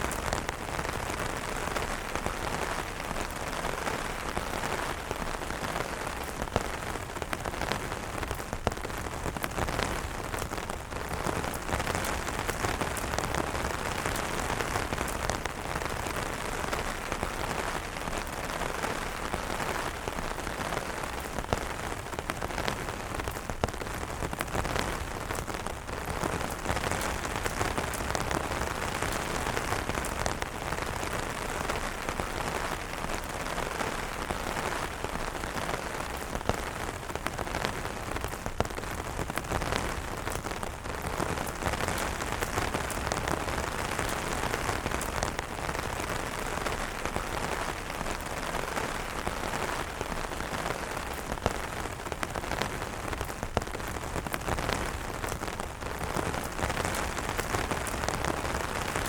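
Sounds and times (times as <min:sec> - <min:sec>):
rain falling on umbrellas: 0:00.0 - 0:59.0.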